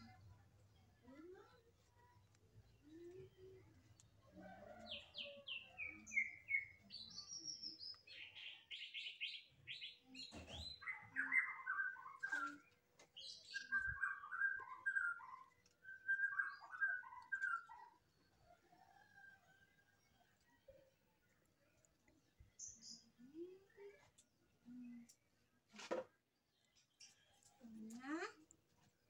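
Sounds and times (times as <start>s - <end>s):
songbird singing: 0.0s - 25.4s.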